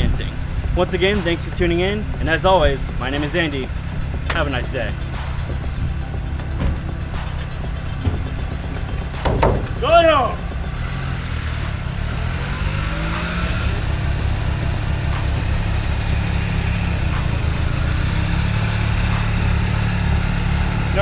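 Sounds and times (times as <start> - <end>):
small truck engine pulling away: 0.0 - 21.0.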